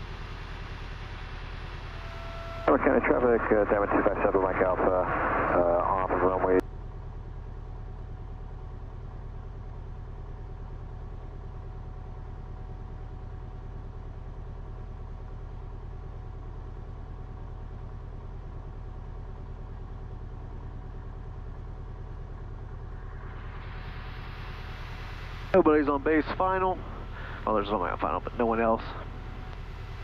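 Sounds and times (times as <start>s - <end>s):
aircraft engine idling: 0.0s - 30.0s.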